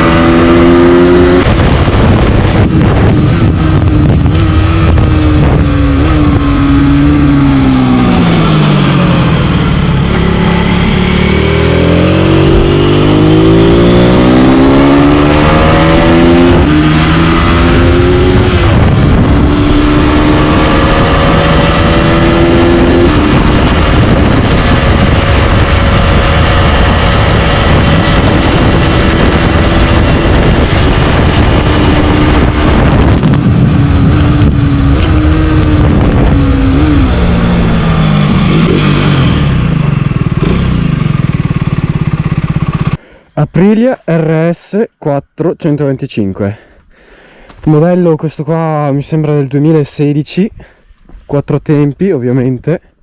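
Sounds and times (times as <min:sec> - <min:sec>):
motorcycle engine revving: 0:00.0 - 0:43.1.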